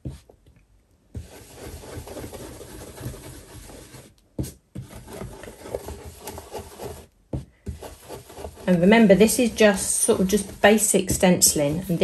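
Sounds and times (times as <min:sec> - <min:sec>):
brush scratching over stencil: 0:01.1 - 0:12.0.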